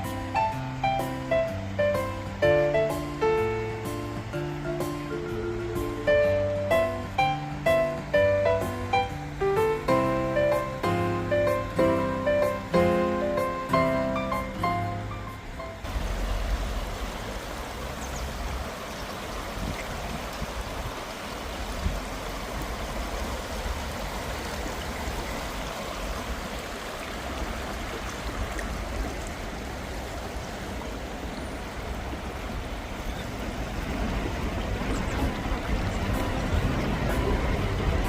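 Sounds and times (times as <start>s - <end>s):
stream water flowing: 0.0s - 38.0s.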